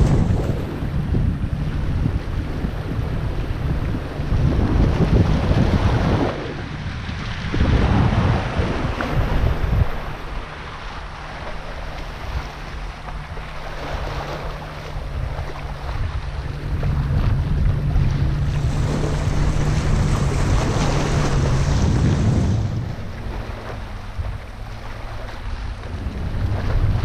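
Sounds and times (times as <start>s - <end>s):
waves splashing against rocks: 0.0s - 27.0s
wind buffeting microphone: 0.0s - 27.0s.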